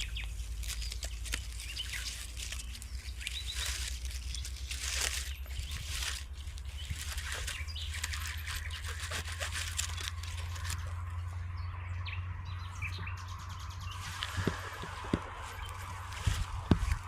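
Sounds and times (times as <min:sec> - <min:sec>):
irregular rustling: 0:00.0 - 0:11.3, 0:13.9 - 0:17.0
low rumble: 0:00.0 - 0:17.0.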